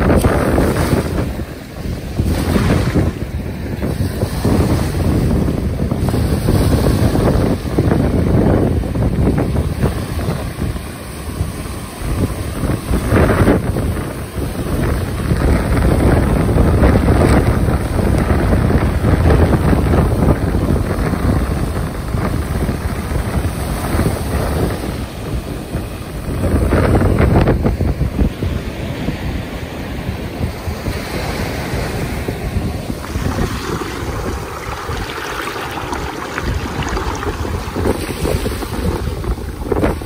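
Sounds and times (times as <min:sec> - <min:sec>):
ocean waves washing in: 0:00.0 - 0:40.0
wind rumbling on microphone: 0:00.0 - 0:40.0.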